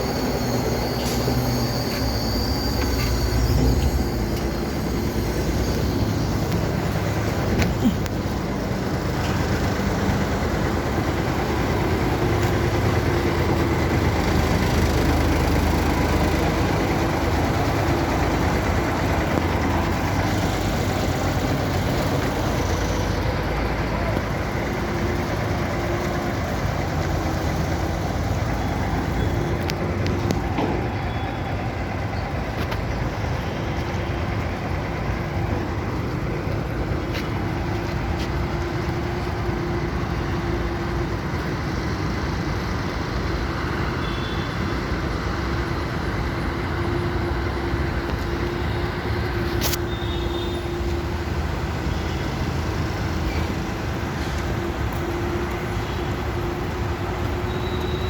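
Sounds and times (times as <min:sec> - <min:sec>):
crane engine running: 0:00.0 - 0:58.0.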